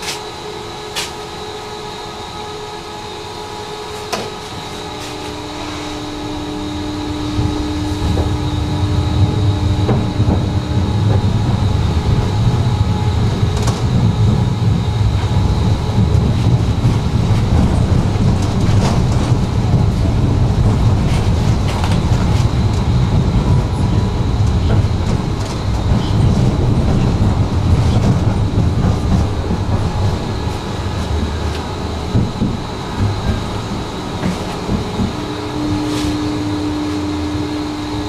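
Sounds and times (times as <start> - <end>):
steady hum: 0.0 - 38.0
tram wheels rumbling on rails: 0.0 - 38.0.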